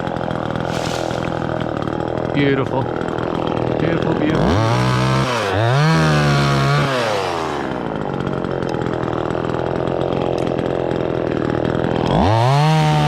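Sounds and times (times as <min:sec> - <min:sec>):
chainsaw revving and idling: 0:00.0 - 0:13.0.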